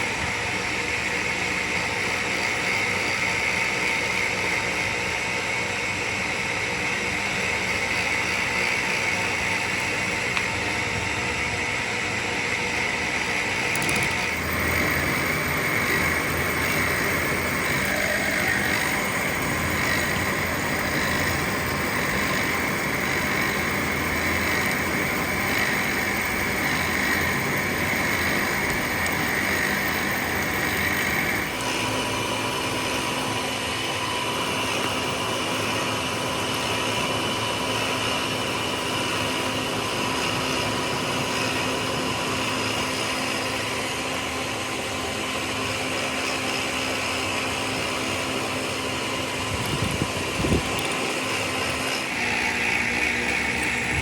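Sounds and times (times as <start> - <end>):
loud machine noise: 0.0 - 54.0.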